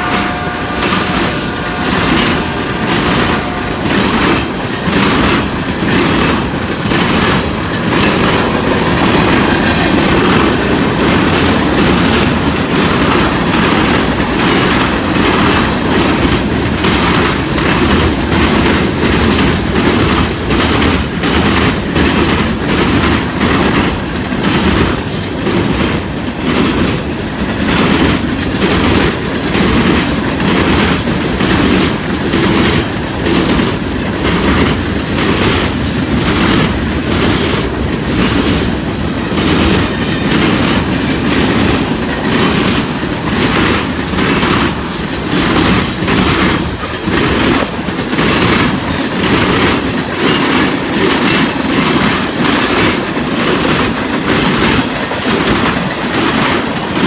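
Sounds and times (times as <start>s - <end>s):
train rumble: 0.0s - 57.0s
train wheels clacking: 0.0s - 57.0s.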